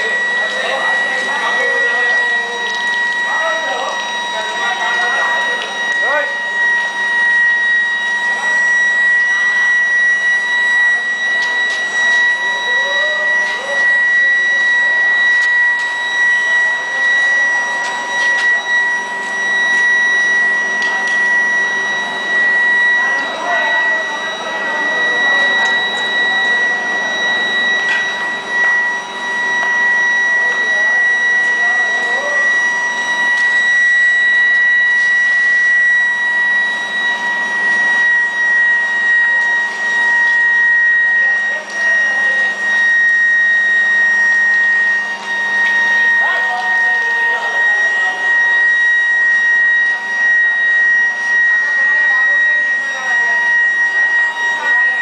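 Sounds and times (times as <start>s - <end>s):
furnace high-pitched whine: 0.0s - 55.0s
hissing machine noise: 0.0s - 55.0s.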